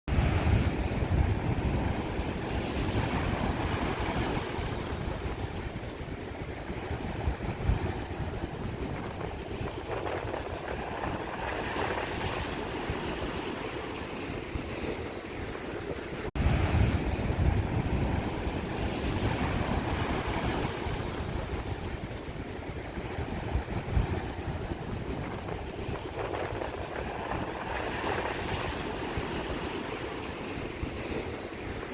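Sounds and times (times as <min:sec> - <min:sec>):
sea waves washing on shore: 0:00.1 - 0:31.9
wind buffeting microphone: 0:00.1 - 0:31.9.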